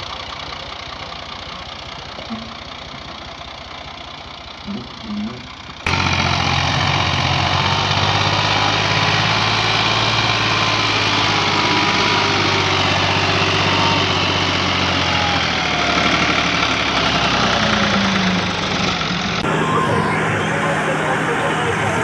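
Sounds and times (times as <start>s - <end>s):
tractor diesel engine running hard: 0.0s - 22.0s.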